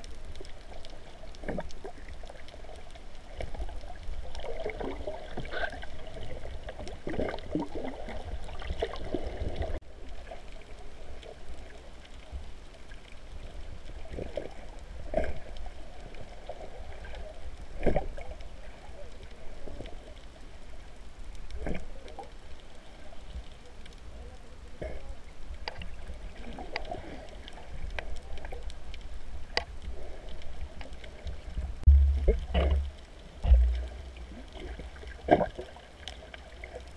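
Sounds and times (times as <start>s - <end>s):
water gurgling and sloshing: 0.0s - 23.6s, 24.8s - 36.9s
underwater low rumble: 0.0s - 36.9s.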